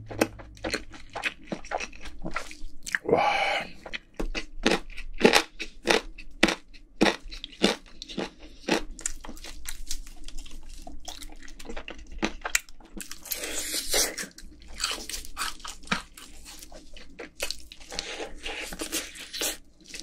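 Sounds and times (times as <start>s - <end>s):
crunchy chewing of fried chicken: 0.0s - 20.0s.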